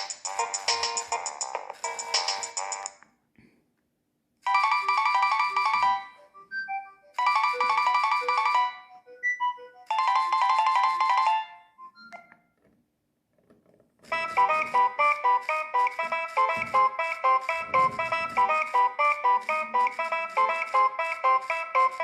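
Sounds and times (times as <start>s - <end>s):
busier electronic ringtone: 0.0s - 3.0s, 4.4s - 12.5s, 14.1s - 22.0s
polyphonic ringtone: 0.0s - 3.0s, 4.4s - 12.5s, 14.1s - 22.0s.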